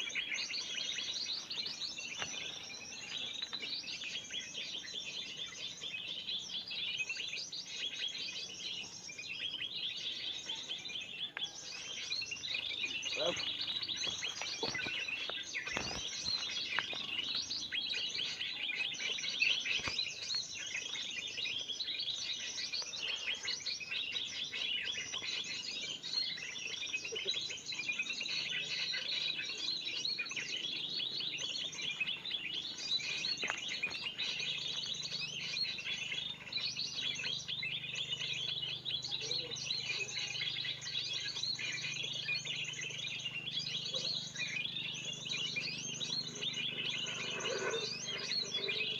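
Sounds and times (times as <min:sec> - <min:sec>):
many small birds chattering: 0:00.0 - 0:48.9.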